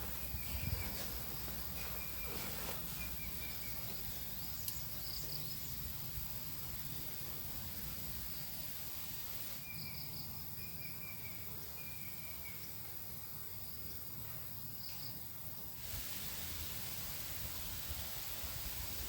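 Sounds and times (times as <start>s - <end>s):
insects chirping: 0.0s - 19.0s
steady hiss: 0.0s - 19.0s.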